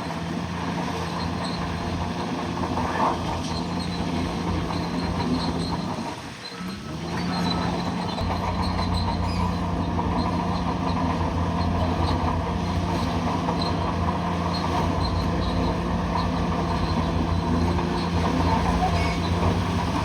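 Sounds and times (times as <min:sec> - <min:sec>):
diesel engine running: 0:00.0 - 0:20.0
steel tracks clattering: 0:01.2 - 0:20.0.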